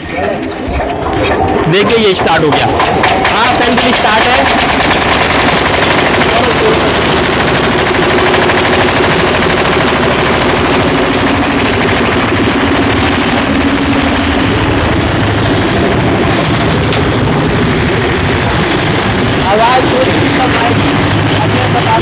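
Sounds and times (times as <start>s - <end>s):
diesel engine knocking: 1.4s - 22.0s.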